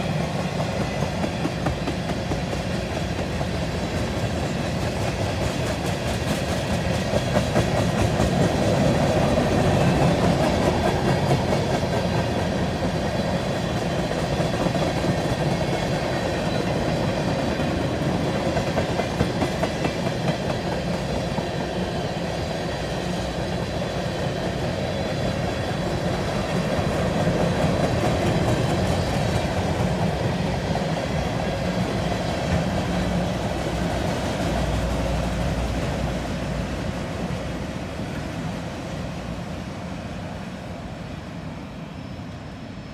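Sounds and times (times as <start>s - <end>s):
freight train cars rumbling past: 0.0s - 42.9s.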